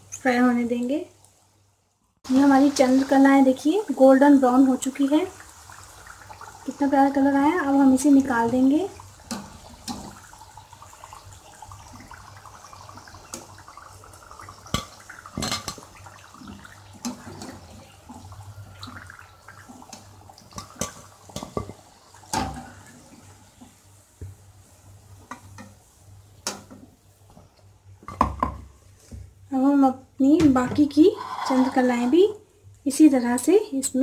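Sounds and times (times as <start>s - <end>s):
hot oil sizzling: 0.0s - 27.3s, 30.8s - 34.0s.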